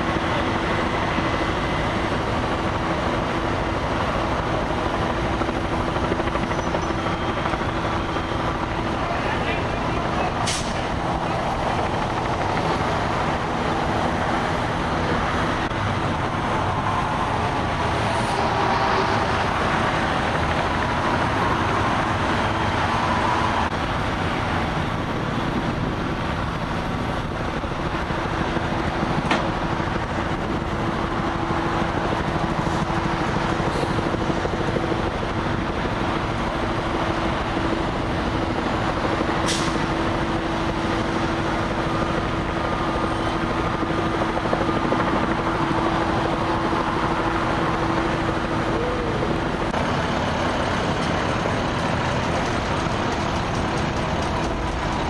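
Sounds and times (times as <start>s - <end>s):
truck engines running: 0.0s - 55.0s.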